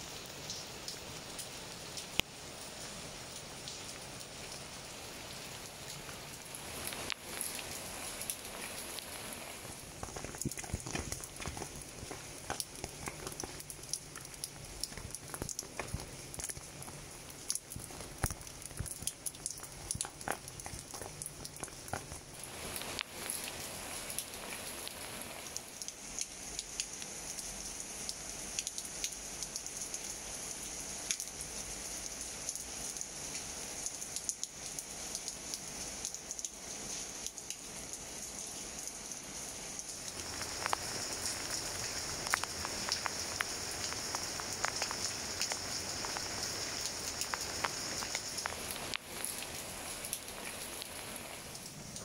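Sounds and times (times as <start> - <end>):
rain falling on leaves: 0.0 - 52.0.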